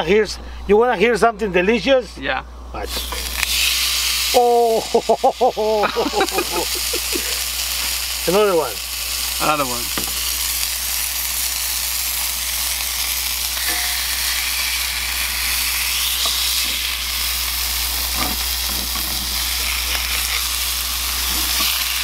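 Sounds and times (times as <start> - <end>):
meat sizzling in oil: 2.9 - 22.0.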